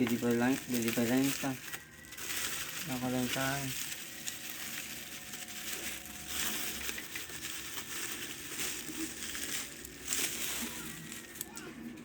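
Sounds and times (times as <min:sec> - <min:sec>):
crinkling handling noise: 0:00.0 - 0:12.0.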